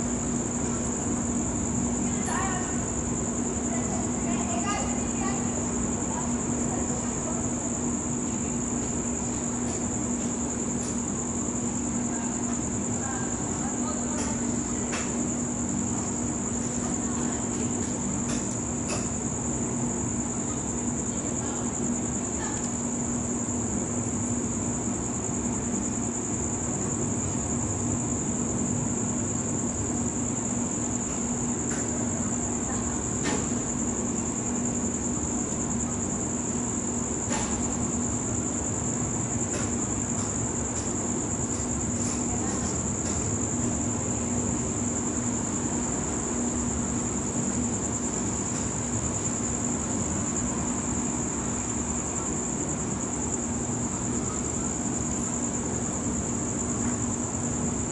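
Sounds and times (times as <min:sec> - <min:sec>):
night insects trilling: 0:00.0 - 0:57.9.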